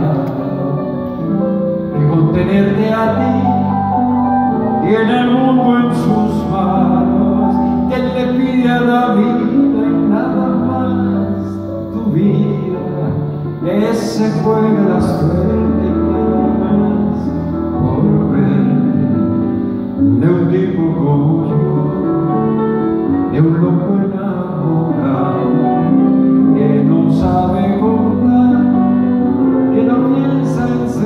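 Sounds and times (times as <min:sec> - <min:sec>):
live band playing slow song: 0:00.0 - 0:31.0.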